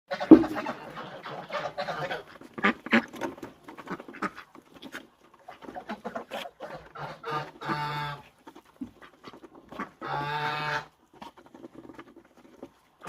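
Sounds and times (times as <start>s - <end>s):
drawn-out animal call: 0.1s - 13.0s
pecking and scraping clicks: 2.2s - 13.0s.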